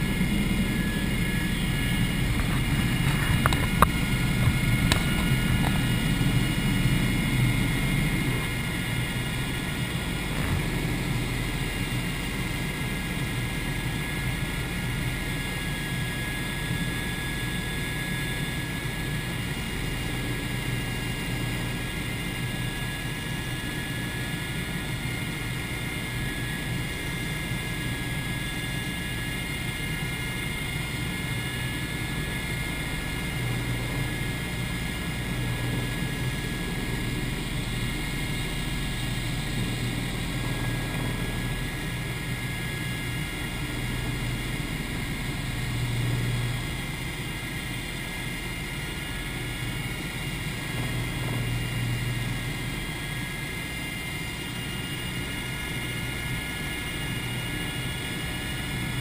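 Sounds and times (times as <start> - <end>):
helicopter cabin whine and rumble: 0.0 - 59.0.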